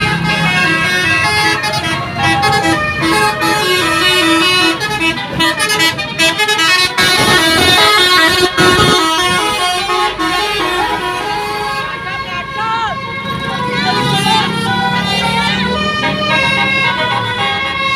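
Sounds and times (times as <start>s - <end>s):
bus musical air horns: 0.0s - 17.9s.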